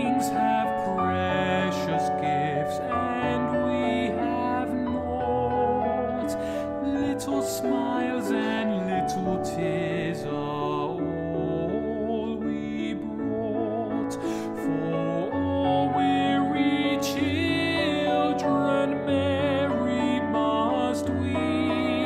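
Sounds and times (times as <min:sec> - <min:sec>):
man singing a carol: 0:00.0 - 0:22.0
piano: 0:00.0 - 0:22.0.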